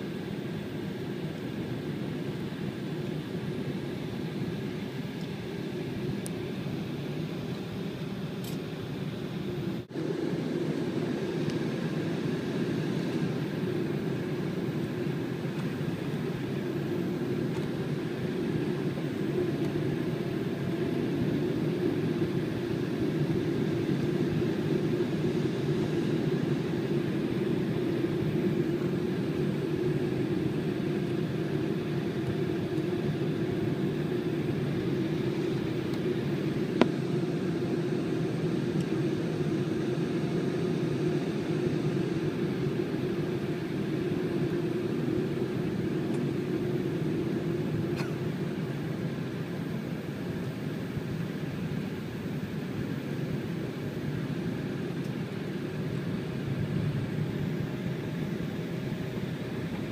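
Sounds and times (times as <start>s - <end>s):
airliner cabin engine noise: 0.0s - 59.9s.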